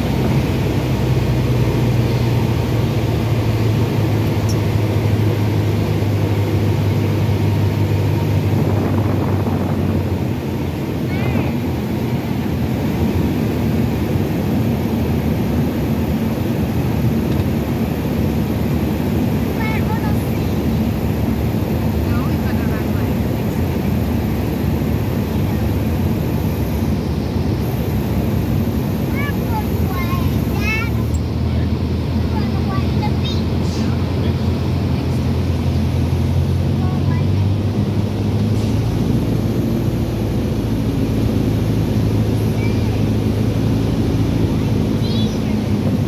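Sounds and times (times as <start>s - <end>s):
airplane engine and propeller: 0.0s - 46.0s.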